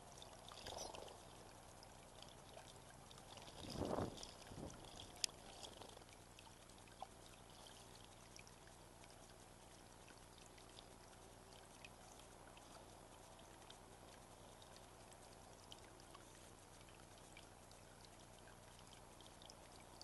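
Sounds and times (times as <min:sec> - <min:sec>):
light ticks and splashes: 0:00.0 - 0:20.0
water trickling into a basin: 0:00.0 - 0:20.0.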